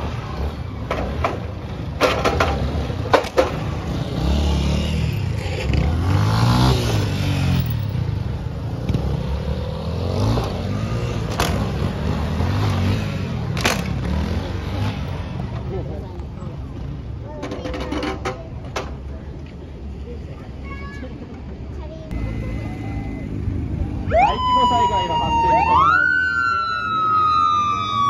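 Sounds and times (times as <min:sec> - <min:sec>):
motorcycle engines revving: 0:00.0 - 0:20.2, 0:21.4 - 0:28.0.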